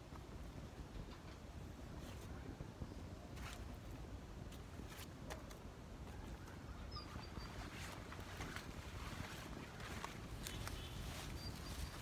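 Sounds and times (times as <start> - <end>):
rustling of leaves: 0.0 - 12.0
wind rumble on microphone: 0.0 - 12.0.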